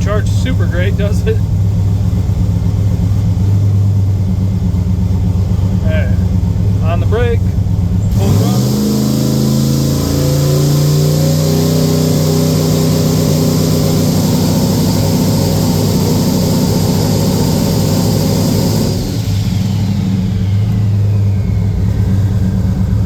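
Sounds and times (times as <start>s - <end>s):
engine at high revs: 0.0s - 23.0s.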